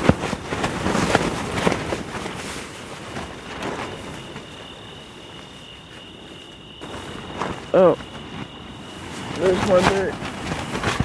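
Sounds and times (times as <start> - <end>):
tent fabric flapping: 0.0 - 11.0
wind gusting: 0.0 - 11.0.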